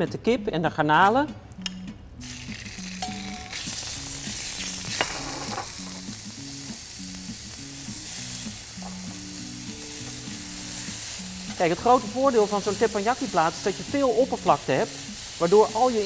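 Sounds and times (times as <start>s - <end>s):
food sizzling on a griddle: 2.2s - 16.0s.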